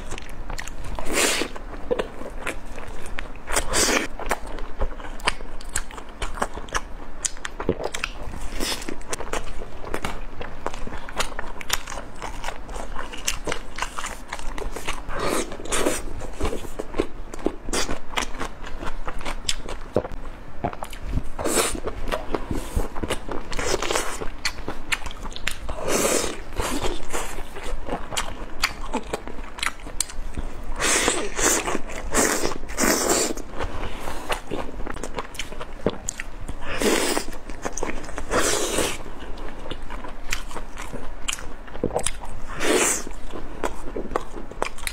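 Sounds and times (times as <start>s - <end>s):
biting and chewing food: 0.0s - 44.9s.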